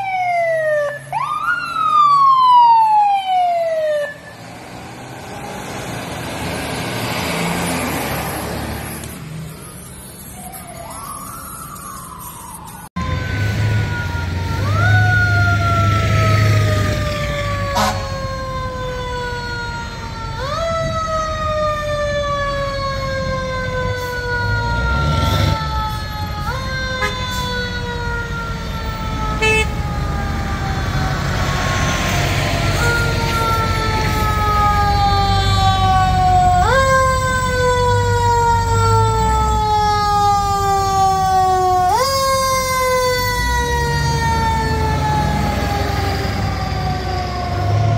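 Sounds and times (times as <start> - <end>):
fire engine siren wailing: 0.0 - 47.9
truck engine rumble: 1.0 - 47.9.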